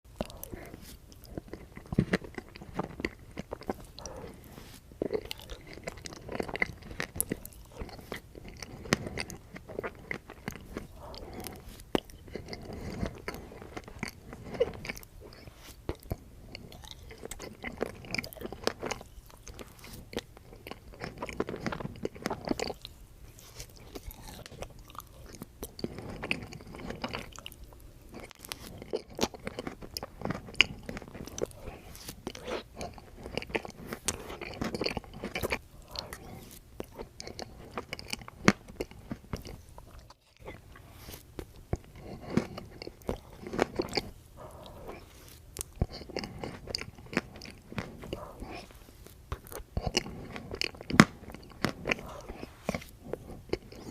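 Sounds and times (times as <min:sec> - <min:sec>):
biting and chewing crunches: 0:00.1 - 0:53.9.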